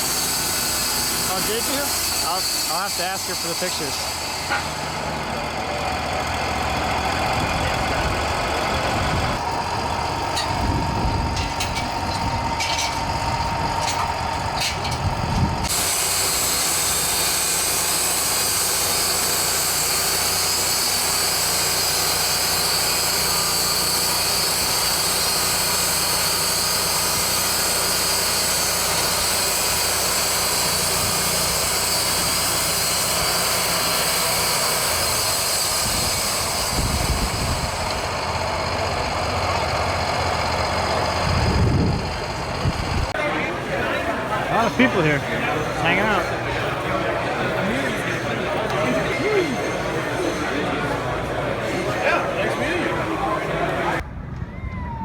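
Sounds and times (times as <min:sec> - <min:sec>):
power tool running: 0:00.0 - 0:43.1, 0:44.1 - 0:54.0.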